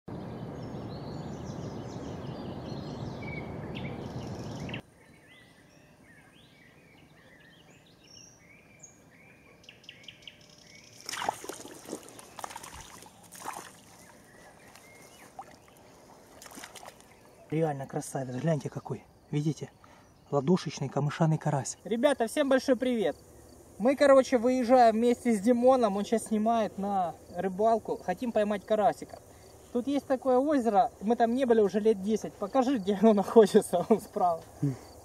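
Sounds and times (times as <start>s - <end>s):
small birds chirping: 0.1s - 35.0s.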